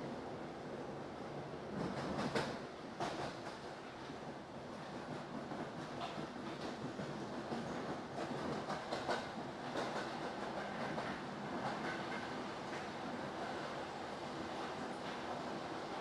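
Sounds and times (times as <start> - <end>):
train wheels rumbling on rails: 0.8 - 16.0
rail joint clickety-clack: 1.3 - 16.0.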